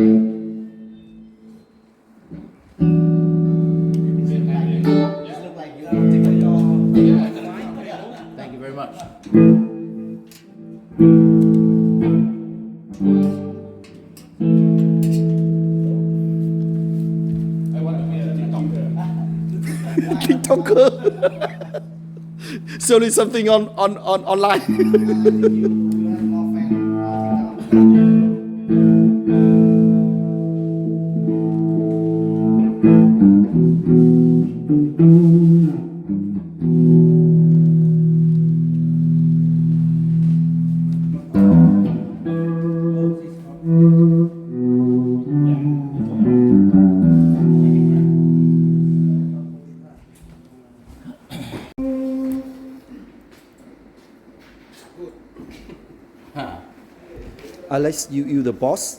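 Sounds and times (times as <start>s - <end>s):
guitar chords ringing: 0.0s - 1.6s, 2.8s - 8.3s, 9.3s - 49.9s, 51.8s - 53.0s.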